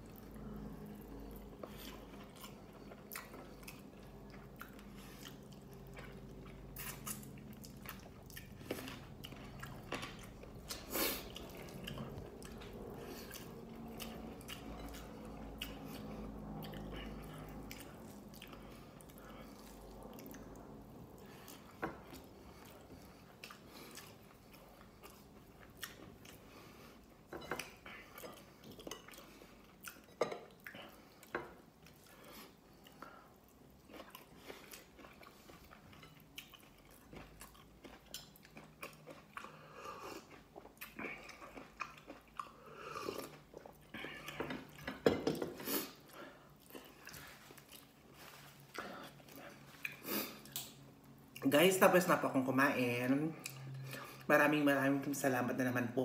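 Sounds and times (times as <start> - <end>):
person chewing food: 0.0 - 51.4
low steady hum: 0.0 - 56.0.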